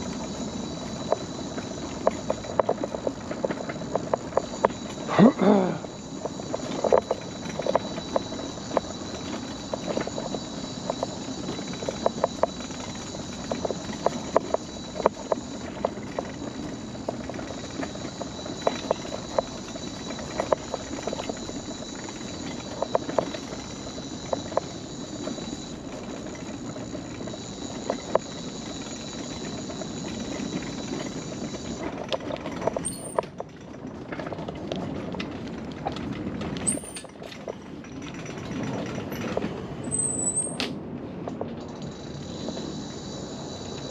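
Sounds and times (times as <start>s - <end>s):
wheels clacking over deck boards: 0.0s - 42.8s.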